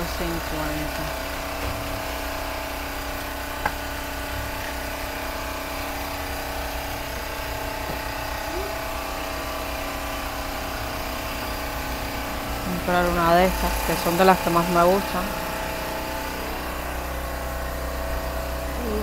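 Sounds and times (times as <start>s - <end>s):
generator engine droning: 0.0s - 19.0s.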